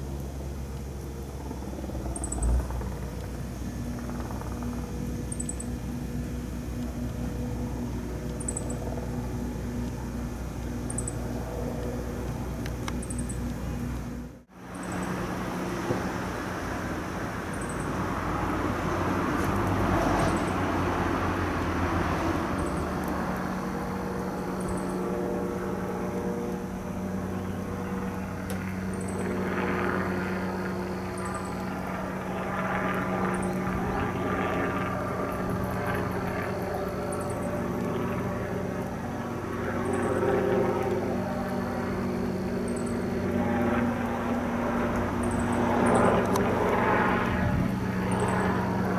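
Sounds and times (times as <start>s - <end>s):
helicopter drone overhead: 0.0s - 48.9s.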